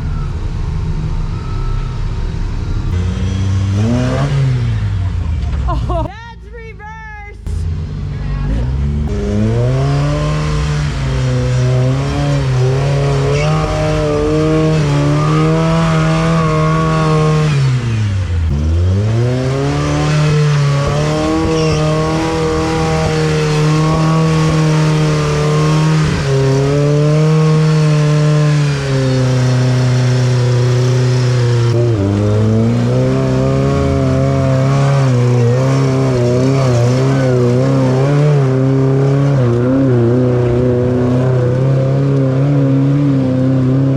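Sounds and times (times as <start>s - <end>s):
engine running under load: 0.0s - 6.1s, 7.4s - 43.9s.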